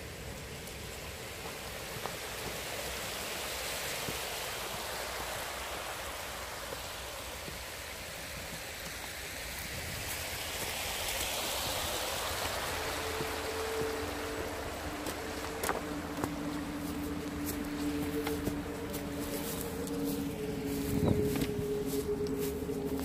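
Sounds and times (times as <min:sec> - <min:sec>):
water rushing into water: 0:00.0 - 0:20.7.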